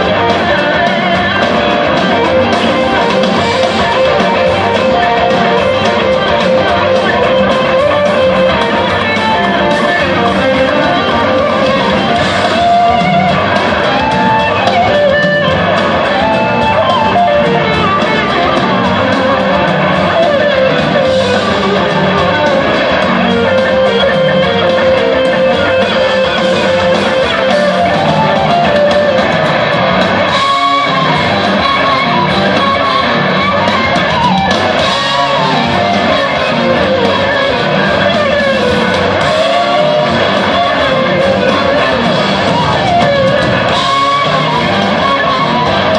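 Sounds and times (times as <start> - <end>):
electric guitar bending notes: 0.0 - 45.9
rock band playing: 0.0 - 45.9.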